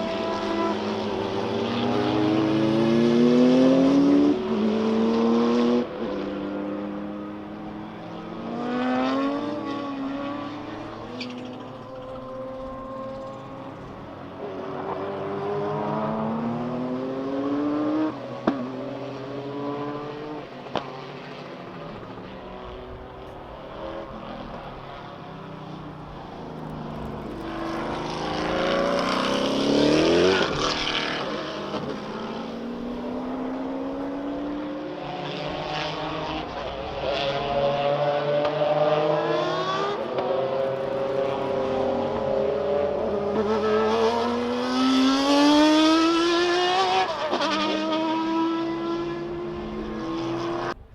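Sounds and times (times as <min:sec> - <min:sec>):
car passing by: 0:00.0 - 0:50.9
racing car engines accelerating: 0:00.0 - 0:50.9.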